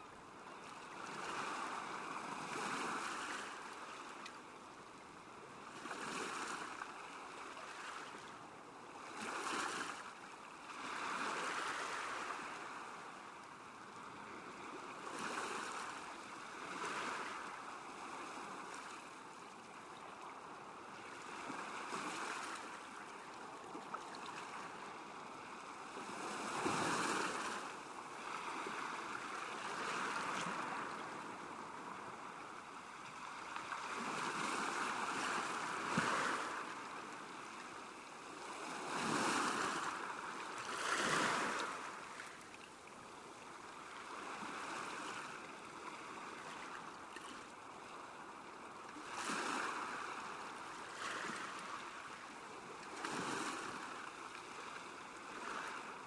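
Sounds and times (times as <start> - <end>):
small waves lapping: 0.1 - 56.0.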